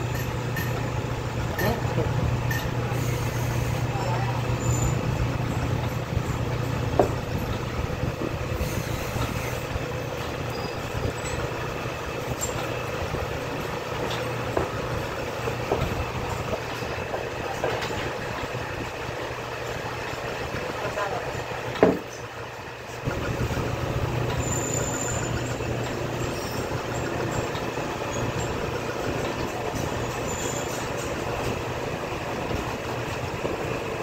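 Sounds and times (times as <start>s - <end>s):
low machinery hum: 0.0s - 34.0s
noisy background: 0.0s - 34.0s.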